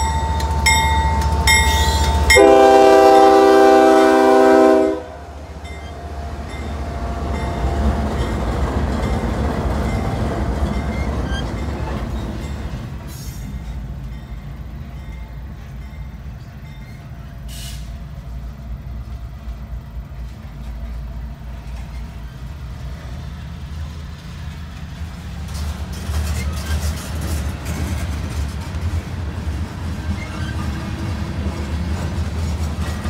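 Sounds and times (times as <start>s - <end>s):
freight train rolling past: 0.0s - 33.0s
muffled train rumble: 0.0s - 33.0s.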